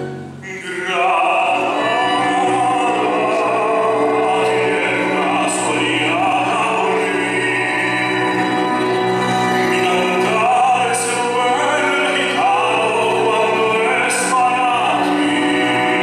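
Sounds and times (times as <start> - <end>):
man singing operatic tenor: 0.4 - 8.8, 9.5 - 16.0.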